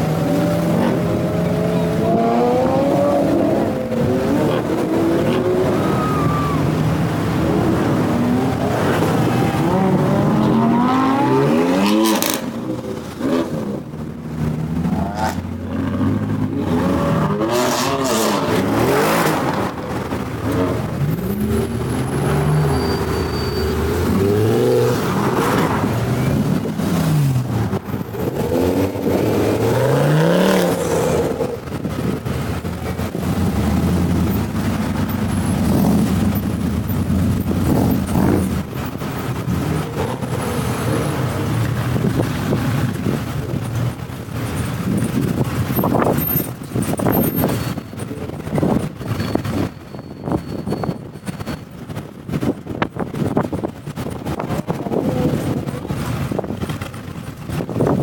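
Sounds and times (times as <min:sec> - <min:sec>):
car engines revving past: 0:00.0 - 0:47.6.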